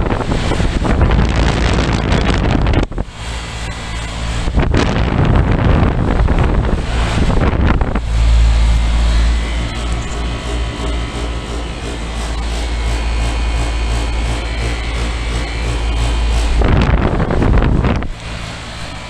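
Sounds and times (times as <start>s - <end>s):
air conditioner unit humming: 0.0s - 19.0s
wind buffeting microphone: 0.0s - 19.0s.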